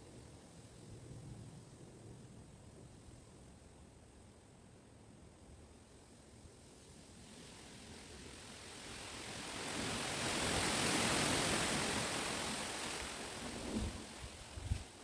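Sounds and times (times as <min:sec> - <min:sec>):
wind rustling leaves: 0:00.0 - 0:15.0.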